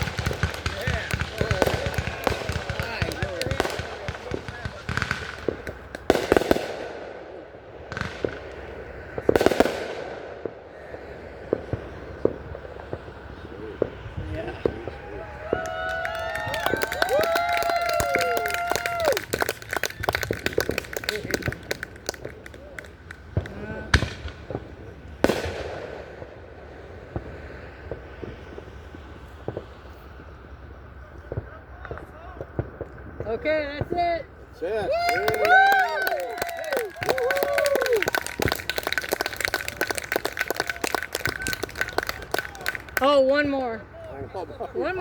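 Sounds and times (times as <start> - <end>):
sharp cracks: 0.0 - 13.1, 15.4 - 26.4, 31.8 - 44.3
fireworks bursting: 0.0 - 45.0
fireworks crackle: 0.0 - 45.0.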